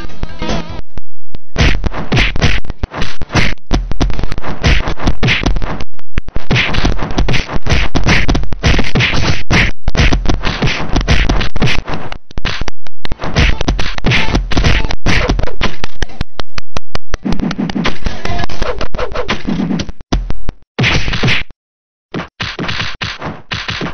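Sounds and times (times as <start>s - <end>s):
cartoon punch and kick hits: 1.6s - 16.1s, 17.1s - 21.5s, 22.1s - 23.9s.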